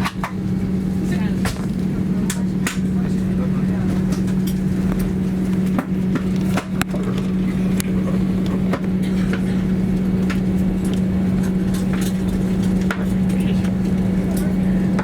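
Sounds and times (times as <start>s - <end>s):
airplane cabin hum and rumble: 0.0s - 15.0s.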